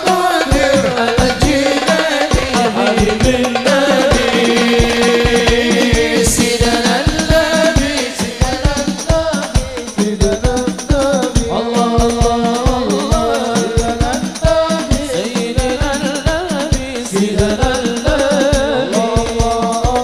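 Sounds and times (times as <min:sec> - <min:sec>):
hand drums beating: 0:00.0 - 0:20.0.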